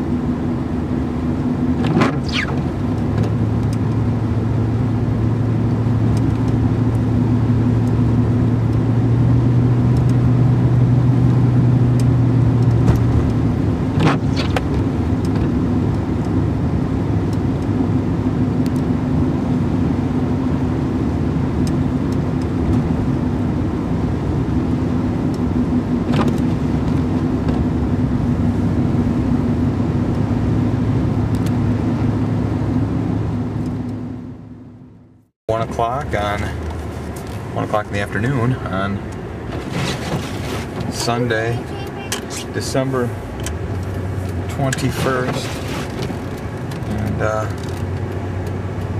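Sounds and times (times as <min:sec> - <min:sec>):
road noise: 0:00.0 - 0:48.9
vehicle engine hum: 0:00.0 - 0:48.9.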